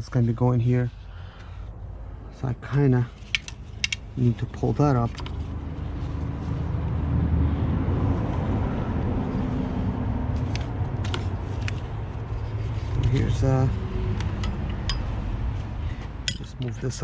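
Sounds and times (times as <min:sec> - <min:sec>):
motor vehicle rumble: 0:00.0 - 0:17.0.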